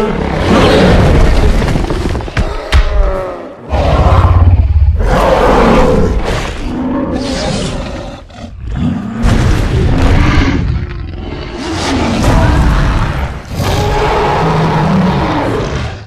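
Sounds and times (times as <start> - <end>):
dinosaur roars and growls: 0.0 - 16.0.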